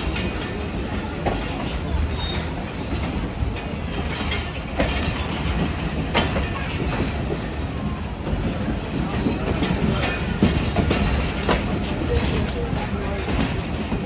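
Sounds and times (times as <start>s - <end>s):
train rumbling along track: 0.0s - 14.0s
wheels clacking over rail joints: 0.0s - 14.0s.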